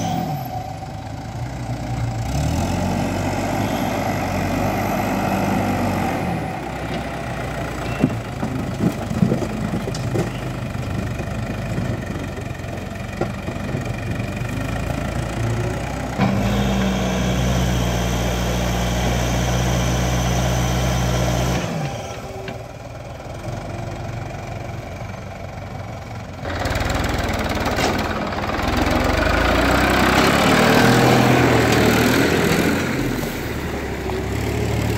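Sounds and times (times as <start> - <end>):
diesel engines running: 0.0 - 34.9.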